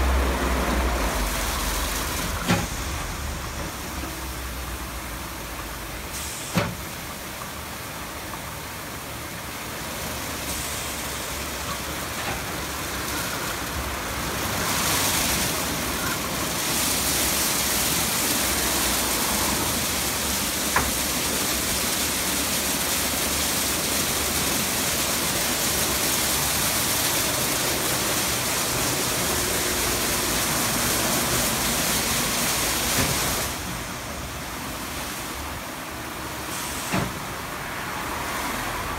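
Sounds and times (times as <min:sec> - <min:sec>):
car wash brushes and water: 0:00.0 - 0:38.9.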